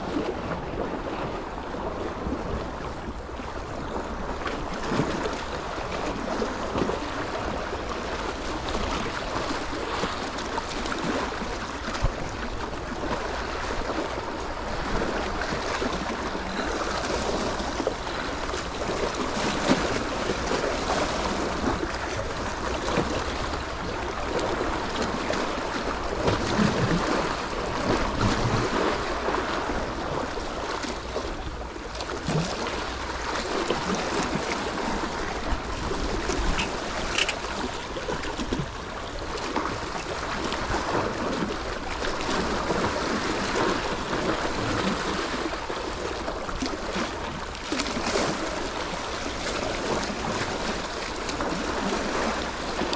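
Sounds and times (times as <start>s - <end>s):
sea water splashing: 0.0s - 52.9s.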